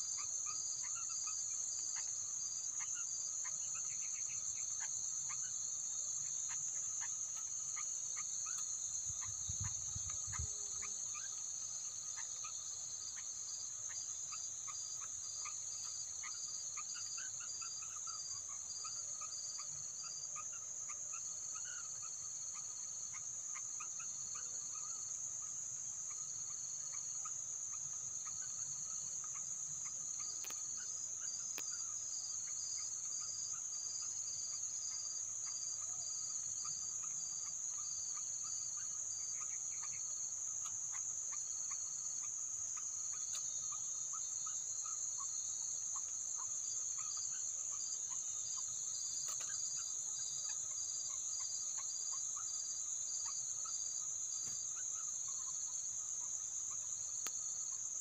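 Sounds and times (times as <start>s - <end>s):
faint chirps: 0.0s - 58.0s.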